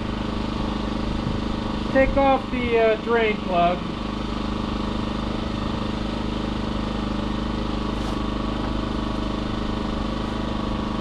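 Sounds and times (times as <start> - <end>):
generator engine idling: 0.0 - 11.0.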